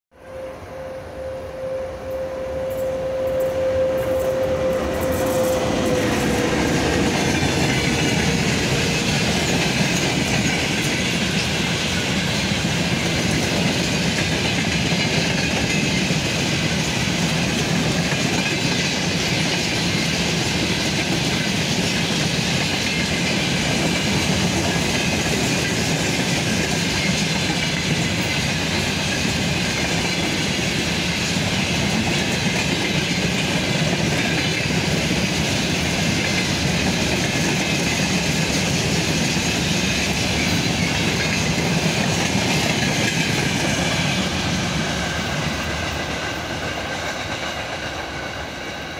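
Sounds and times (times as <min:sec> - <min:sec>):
freight wagon wheels on track: 0:03.3 - 0:48.9.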